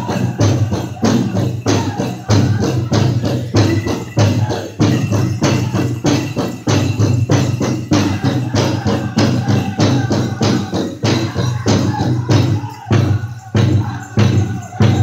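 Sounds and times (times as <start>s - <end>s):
big drum steady beat: 0.0s - 15.0s
leg bells jingling: 0.0s - 15.0s.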